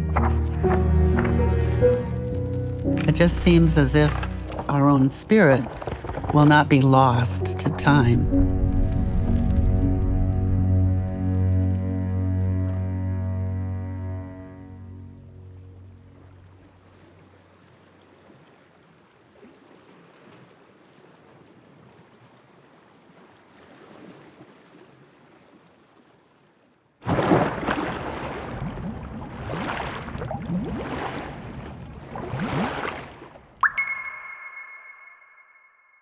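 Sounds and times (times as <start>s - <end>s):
swishing splashing water: 0.0s - 11.0s, 15.5s - 34.2s.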